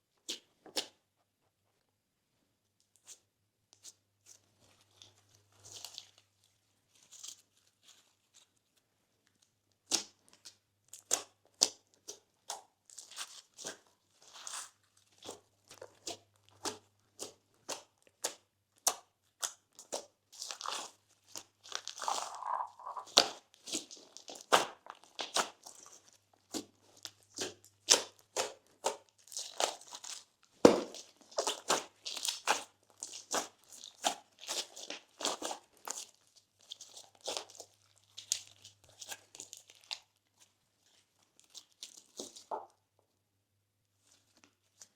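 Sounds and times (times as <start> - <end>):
slime crackling and squishing: 3.8 - 8.8, 9.8 - 42.8.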